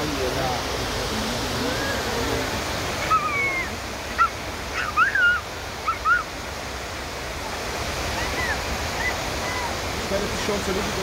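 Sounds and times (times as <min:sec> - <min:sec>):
water cascading: 0:00.0 - 0:11.0.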